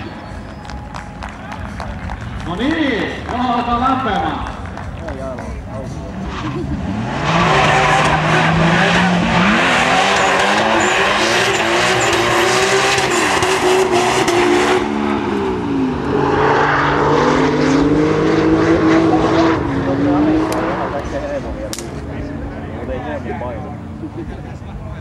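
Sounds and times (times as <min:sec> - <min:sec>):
car engines revving: 0:00.0 - 0:25.0.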